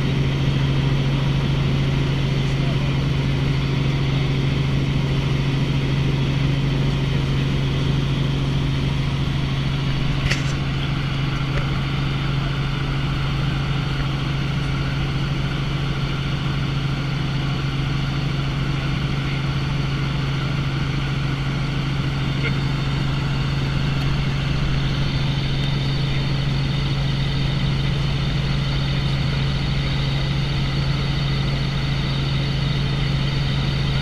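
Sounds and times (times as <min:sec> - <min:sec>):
helicopter cabin drone: 0:00.0 - 0:34.0.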